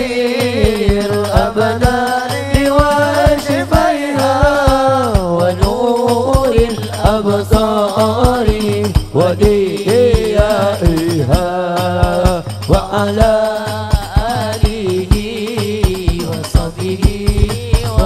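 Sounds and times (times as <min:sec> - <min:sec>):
hand drums beating: 0:00.0 - 0:18.0
person singing devotional melody: 0:00.0 - 0:18.0.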